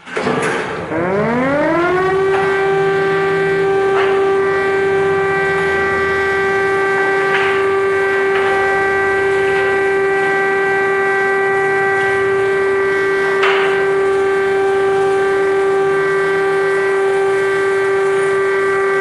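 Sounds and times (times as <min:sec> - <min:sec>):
air-raid siren steady tone: 0:00.9 - 0:19.0.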